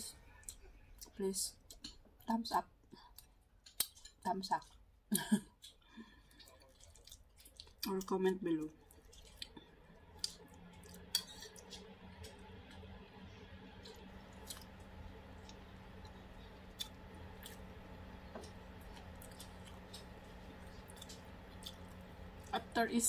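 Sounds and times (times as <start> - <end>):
faint low hum: 0.0 - 23.0
person chewing: 0.4 - 2.1, 2.9 - 22.5.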